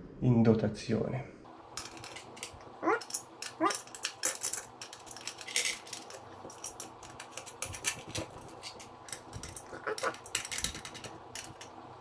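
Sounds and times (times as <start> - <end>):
steel nuts clinking: 1.7 - 11.8.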